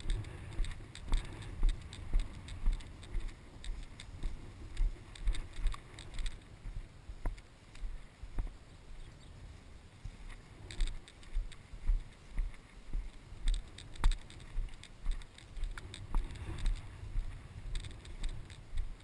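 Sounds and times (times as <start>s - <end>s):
footsteps in wet grass: 0.0s - 19.0s
grass rustling: 0.0s - 19.0s.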